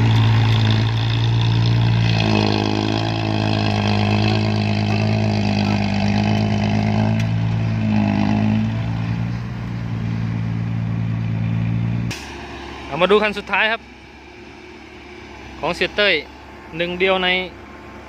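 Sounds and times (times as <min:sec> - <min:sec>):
higher engine note: 0:00.0 - 0:18.0
low diesel engine note: 0:00.0 - 0:18.0.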